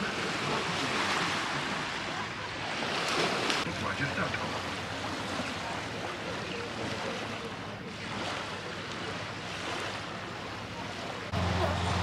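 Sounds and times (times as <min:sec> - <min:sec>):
water lapping against stone shore: 0:00.0 - 0:12.0.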